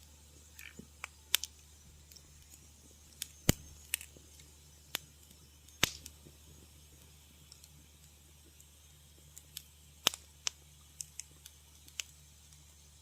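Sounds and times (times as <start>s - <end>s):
faint low hum: 0.0s - 13.0s
wood fire crackling: 0.0s - 13.0s.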